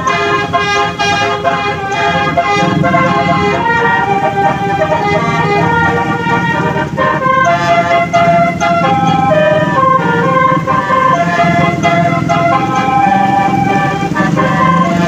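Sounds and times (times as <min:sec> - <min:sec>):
low engine rumble: 0:00.0 - 0:15.0
multi-tone musical horn: 0:00.0 - 0:15.0.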